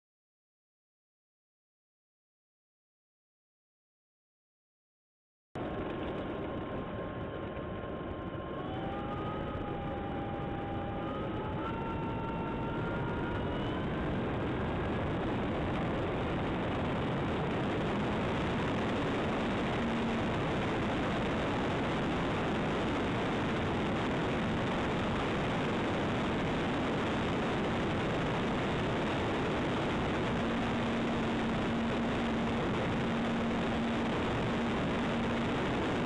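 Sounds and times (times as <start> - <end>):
faint motor hum: 5.6 - 36.0
wind and propeller rush: 5.6 - 36.0.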